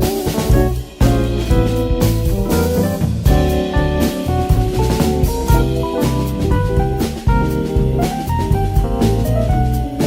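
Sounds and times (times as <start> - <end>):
upbeat jazzy music: 0.0 - 10.0.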